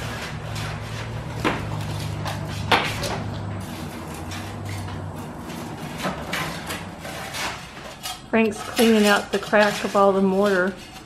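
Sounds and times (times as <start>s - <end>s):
knocking and scraping concrete: 0.0s - 11.0s.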